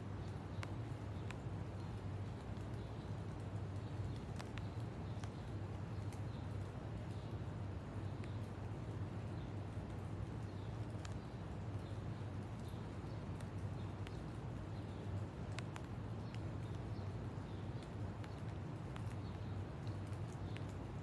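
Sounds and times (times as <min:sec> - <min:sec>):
soft background hiss: 0:00.0 - 0:21.0
faint ticks: 0:00.1 - 0:21.0.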